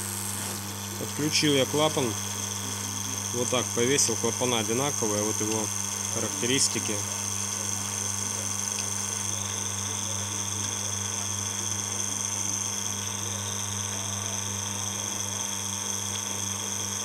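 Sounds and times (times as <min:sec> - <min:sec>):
pump humming: 0:00.0 - 0:17.0.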